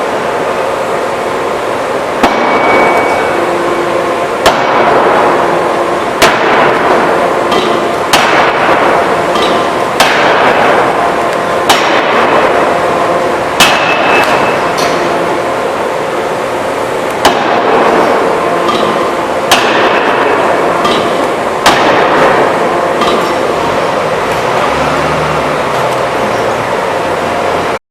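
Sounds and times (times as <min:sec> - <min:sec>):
rushing hydraulic noise: 0:00.0 - 0:27.8
forging hammer blows: 0:02.2 - 0:27.8.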